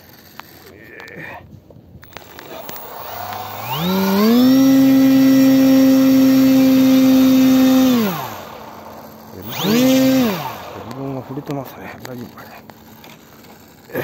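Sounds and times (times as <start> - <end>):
model plane motor whine: 2.0 - 14.0.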